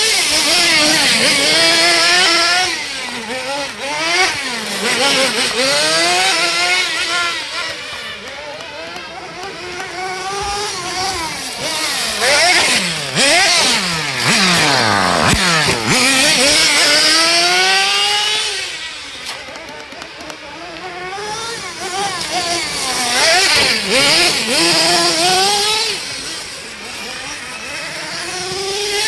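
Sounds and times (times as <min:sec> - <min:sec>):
small nitro engine revving: 0:00.0 - 0:29.0.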